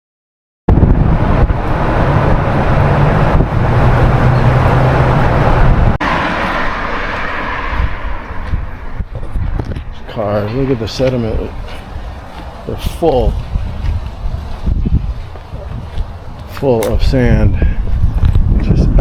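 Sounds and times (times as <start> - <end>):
car engine and road noise: 0.7 - 19.0.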